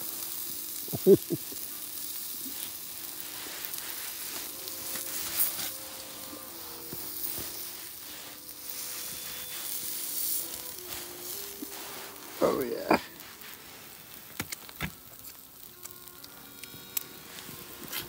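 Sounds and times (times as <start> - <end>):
steak sizzling on a grill: 0.0 - 18.0.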